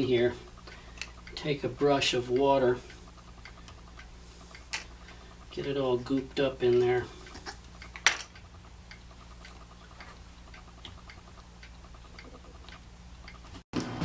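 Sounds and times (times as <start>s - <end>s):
faint even ticking: 0.0s - 13.6s
low steady hum: 0.0s - 14.0s.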